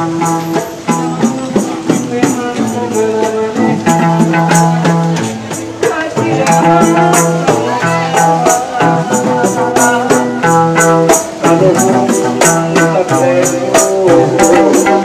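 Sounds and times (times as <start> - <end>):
guitar: 0.0 - 15.0
jingly percussion hits: 0.0 - 15.0
steady beat: 0.0 - 15.0.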